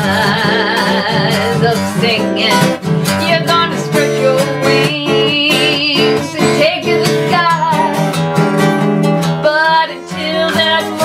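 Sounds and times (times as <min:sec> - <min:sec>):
acoustic guitar strumming: 0:00.0 - 0:11.0
woman singing with vibrato: 0:00.0 - 0:11.0.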